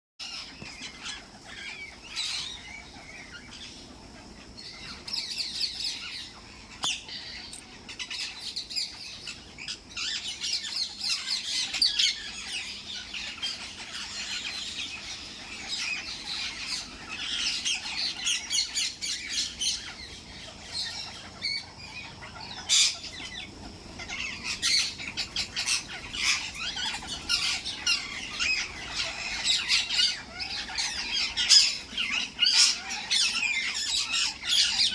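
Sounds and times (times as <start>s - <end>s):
parrots chattering and chirping: 0.2s - 34.9s.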